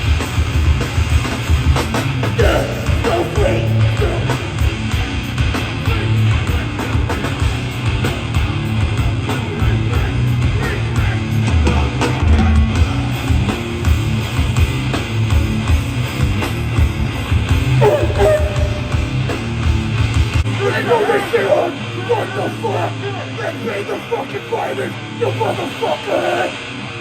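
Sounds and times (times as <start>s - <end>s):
live hardcore band playing: 0.0s - 27.0s.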